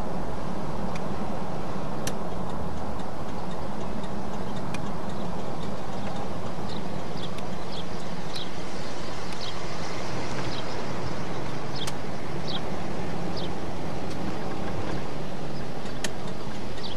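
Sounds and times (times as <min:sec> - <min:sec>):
engine and road noise hum: 0:00.0 - 0:16.9.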